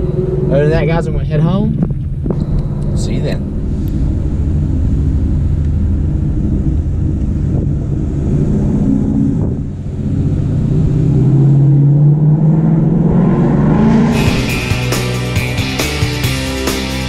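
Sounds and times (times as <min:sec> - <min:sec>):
car engine drone from inside cabin: 0:00.0 - 0:17.0.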